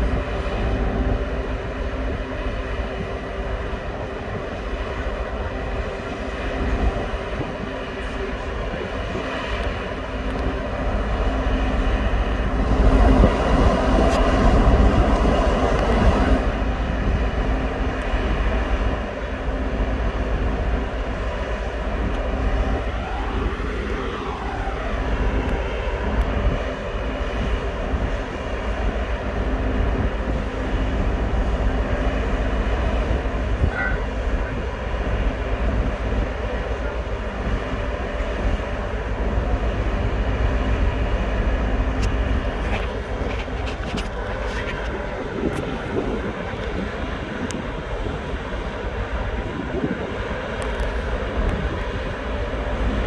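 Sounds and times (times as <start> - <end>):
large engines droning: 0.0 - 53.0.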